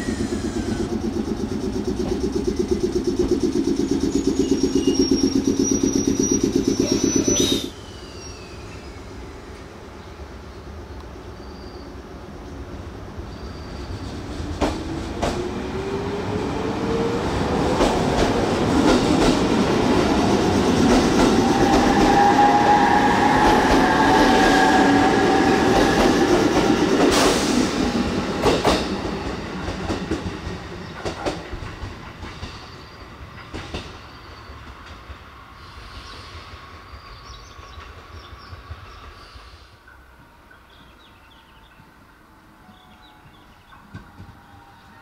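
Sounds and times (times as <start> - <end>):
electric train rumbling past: 0.0 - 45.0
rising train whine: 0.0 - 45.0.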